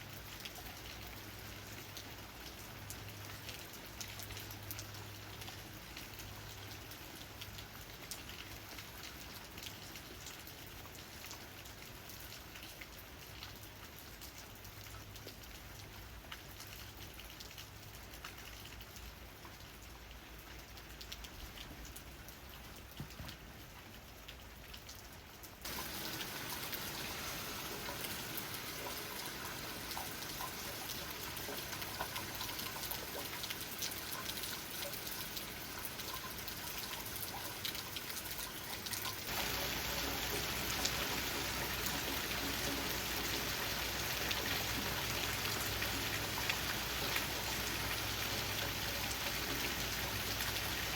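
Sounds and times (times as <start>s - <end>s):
rain tapping on leaves: 0.0s - 50.9s.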